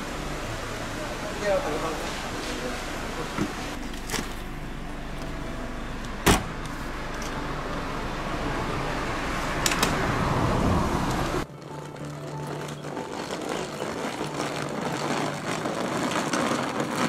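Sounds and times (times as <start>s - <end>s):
airliner cabin noise: 0.0s - 17.0s.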